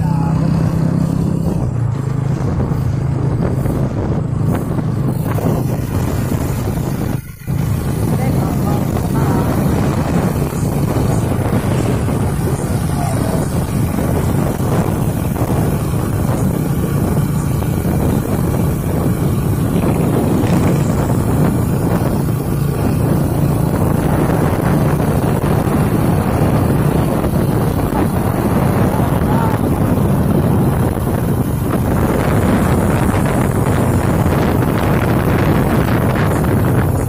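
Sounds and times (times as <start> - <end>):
truck engine running: 0.0 - 37.0
wind buffeting microphone: 0.0 - 37.0.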